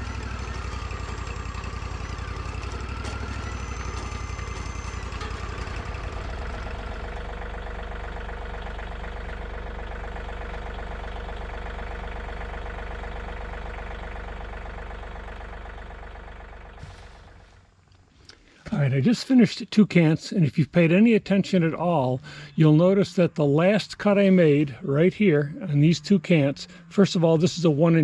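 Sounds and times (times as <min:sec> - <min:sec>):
sawmill engine idling: 0:00.0 - 0:28.0.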